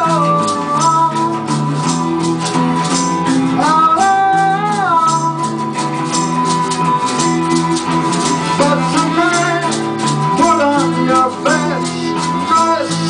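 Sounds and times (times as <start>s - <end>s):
rock band playing: 0.0s - 13.0s
shaker rhythm: 0.0s - 13.0s
sliding lead melody: 0.0s - 13.0s.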